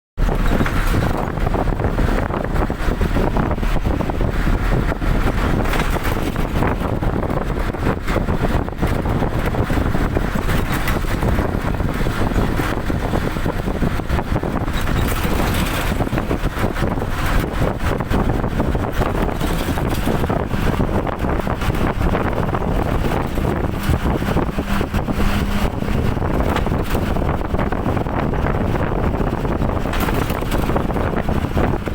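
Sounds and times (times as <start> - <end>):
moving vehicle rushing noise: 0.2 - 31.9
wind on microphone: 0.2 - 31.9.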